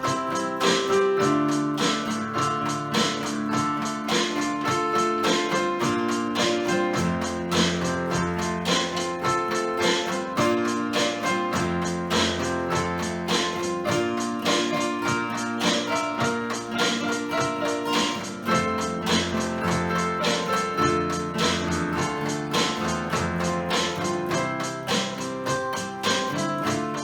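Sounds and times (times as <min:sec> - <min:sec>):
keyboard: 0:00.0 - 0:27.0
strummed guitar: 0:00.0 - 0:27.0.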